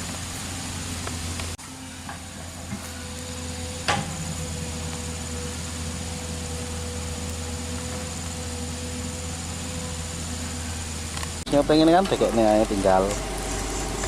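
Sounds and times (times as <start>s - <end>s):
excavator diesel engine humming: 0.0s - 14.0s.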